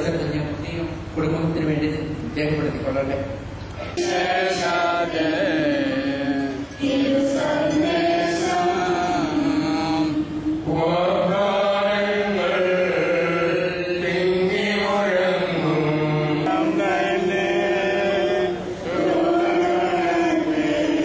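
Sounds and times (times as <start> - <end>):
slow liturgical chant: 3.7 - 21.0.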